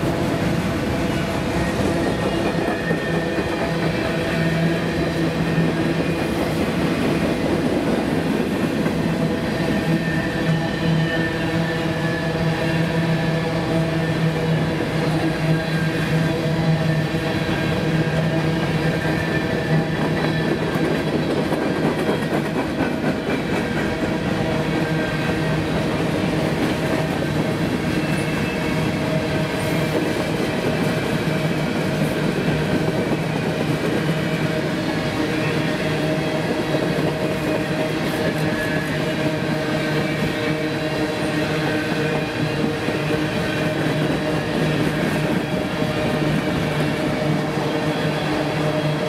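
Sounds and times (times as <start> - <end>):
freight train cars rolling past: 0.0 - 49.0.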